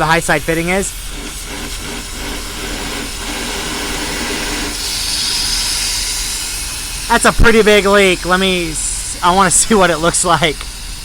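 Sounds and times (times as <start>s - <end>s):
gas hissing from hose leak: 0.0s - 11.0s
steady low hum: 0.0s - 11.0s.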